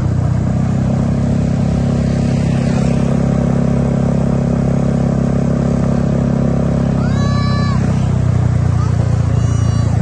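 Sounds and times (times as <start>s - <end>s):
bus diesel engine humming: 0.0s - 10.0s.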